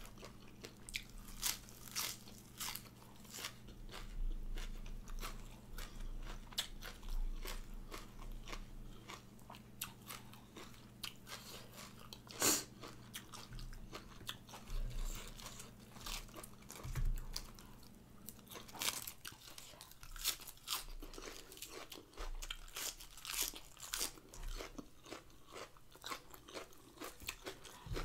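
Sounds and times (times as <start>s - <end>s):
person chewing crisp lettuce: 0.0s - 28.0s.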